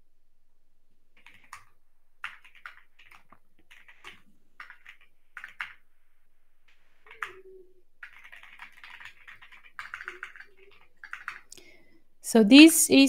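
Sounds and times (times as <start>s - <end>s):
faint keyboard typing: 1.2s - 12.0s.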